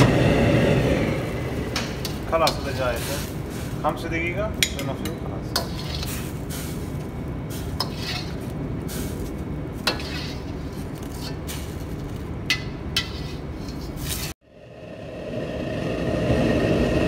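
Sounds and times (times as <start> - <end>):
gas burner rumble: 0.0 - 17.0.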